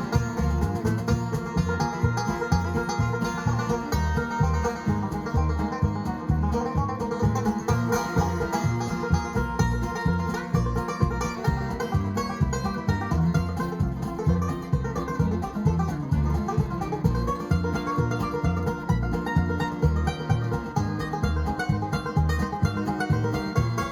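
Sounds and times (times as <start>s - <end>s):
bass: 0.0s - 23.9s
fiddle: 0.0s - 23.9s
guitar: 0.0s - 23.9s
pulsing bass beat: 0.0s - 23.9s.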